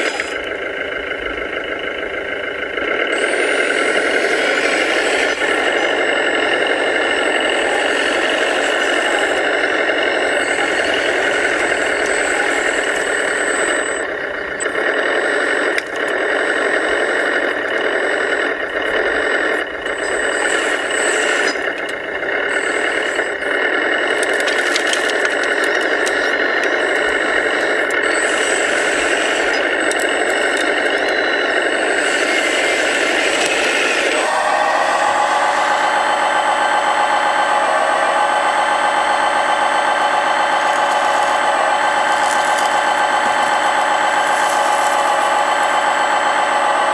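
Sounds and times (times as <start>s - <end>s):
whirring electric motor and pump: 0.0s - 46.9s.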